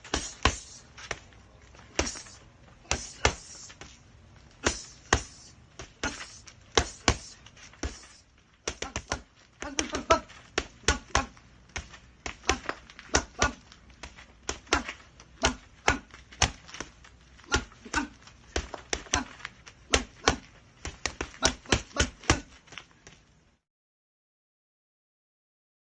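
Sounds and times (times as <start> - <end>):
punches landing: 0.0 - 4.0, 4.6 - 22.8.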